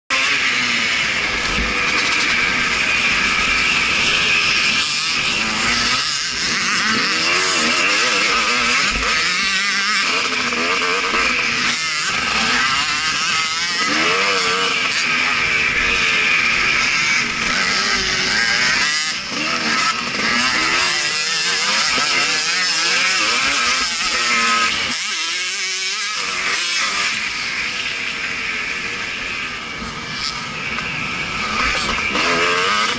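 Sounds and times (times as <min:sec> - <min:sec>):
motocross bike engine revving: 0:00.1 - 0:32.9.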